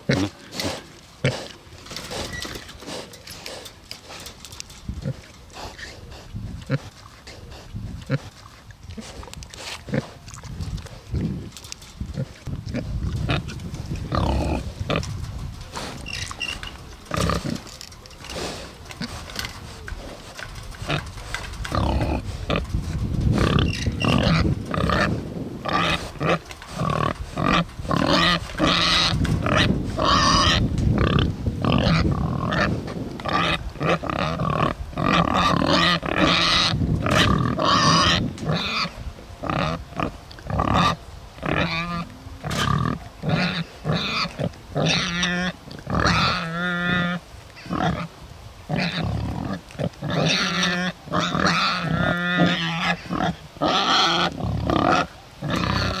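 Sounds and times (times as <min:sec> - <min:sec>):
pigs grunting: 0:00.0 - 0:48.1, 0:48.7 - 0:56.0.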